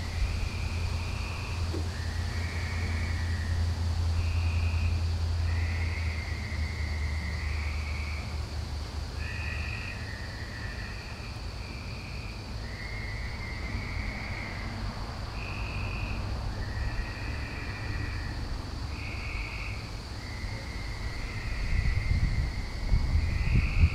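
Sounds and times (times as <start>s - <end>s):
frogs trilling: 0.0s - 23.9s.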